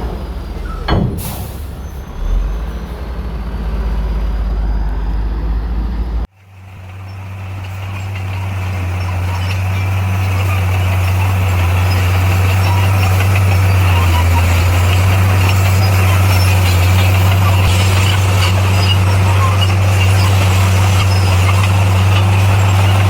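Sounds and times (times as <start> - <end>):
engine low hum: 0.0 - 23.0
heavy diesel machinery running: 0.0 - 23.0.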